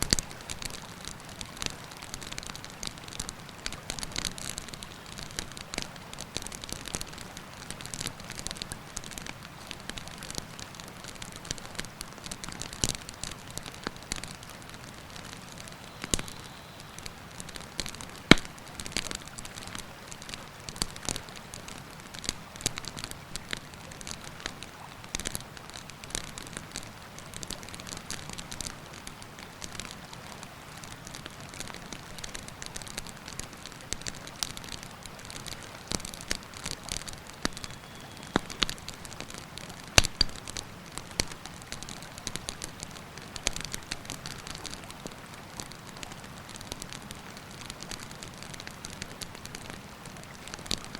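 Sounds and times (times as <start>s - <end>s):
campfire crackling and popping: 0.0s - 50.9s.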